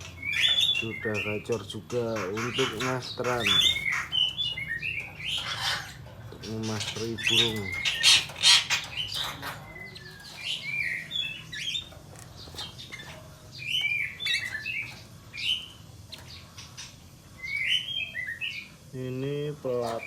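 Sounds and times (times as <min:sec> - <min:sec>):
songbird chirping and singing: 0:00.0 - 0:20.0.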